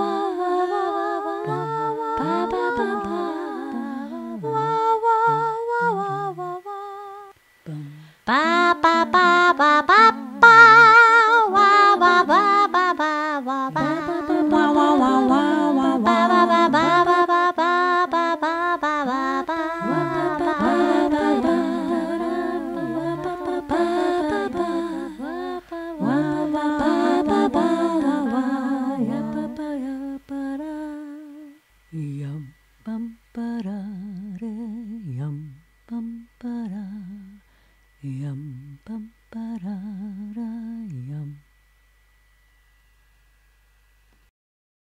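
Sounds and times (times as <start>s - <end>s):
voices humming and singing a cappella: 0.0s - 42.4s.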